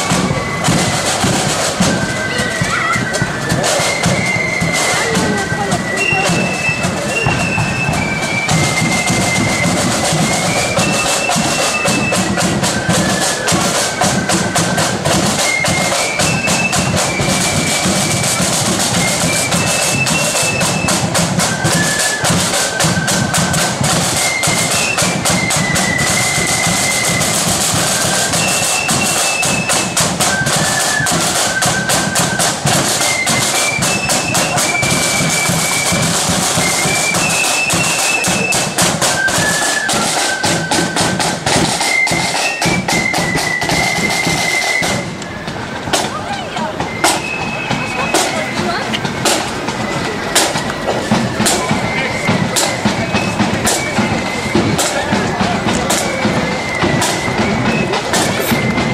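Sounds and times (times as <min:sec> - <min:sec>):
rapid snare drum beat: 0:00.0 - 0:58.9
shrill flutes melody: 0:00.0 - 0:58.9.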